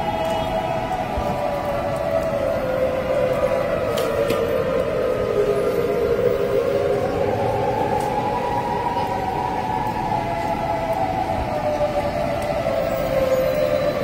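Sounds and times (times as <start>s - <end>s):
warning siren wailing: 0.0s - 14.0s.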